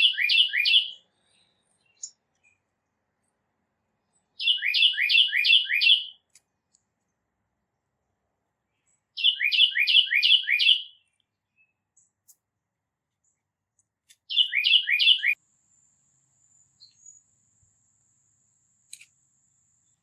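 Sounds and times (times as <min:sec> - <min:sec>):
songbird singing: 0:00.0 - 0:15.4, 0:16.1 - 0:20.0.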